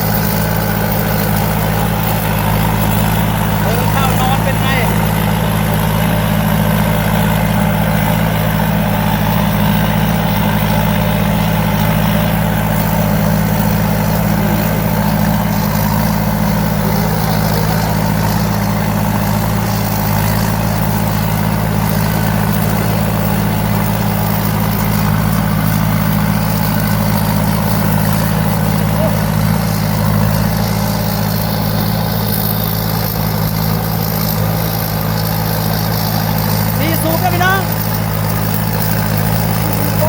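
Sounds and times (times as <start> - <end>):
combine harvester engine droning: 0.0 - 40.0.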